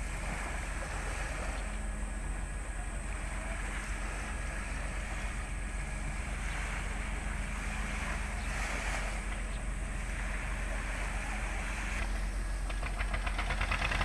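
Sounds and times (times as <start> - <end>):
ship engines droning: 0.0 - 14.0
water noise: 0.0 - 14.0
wind: 0.0 - 14.0.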